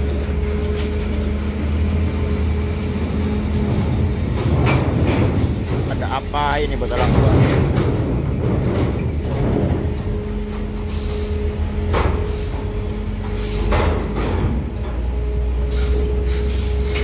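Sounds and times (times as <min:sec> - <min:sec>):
steady low hum: 0:00.0 - 0:17.0
steel plates clanking under wheels: 0:00.0 - 0:17.0
truck diesel engine rumbling: 0:00.0 - 0:17.0.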